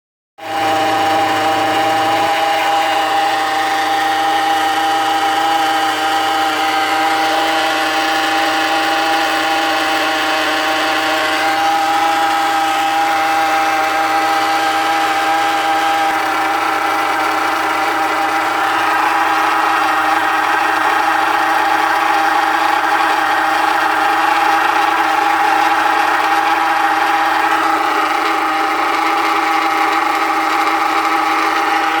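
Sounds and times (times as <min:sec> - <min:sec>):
steady whining hum: 0:00.6 - 0:32.0
car engine idling: 0:00.8 - 0:32.0.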